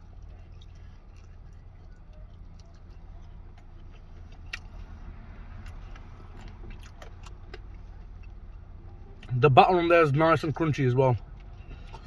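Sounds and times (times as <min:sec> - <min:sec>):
chewing and crunching chicken: 0:00.0 - 0:12.0.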